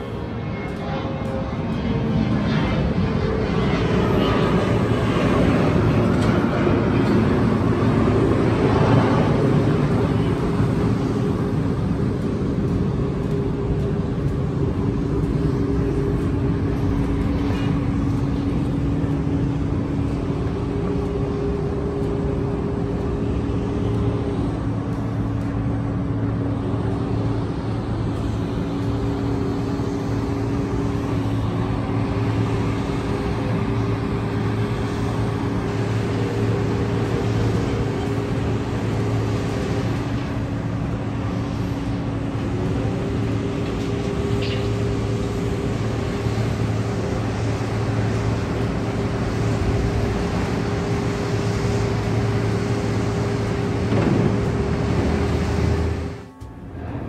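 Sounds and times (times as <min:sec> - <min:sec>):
low machine hum: 0:00.0 - 0:57.0
urban traffic din: 0:00.0 - 0:57.0.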